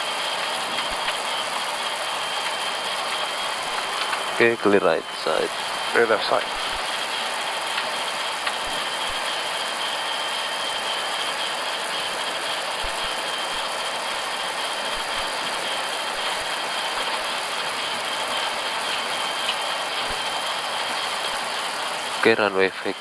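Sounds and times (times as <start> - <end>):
aircraft engines idling hiss: 0.0 - 23.0.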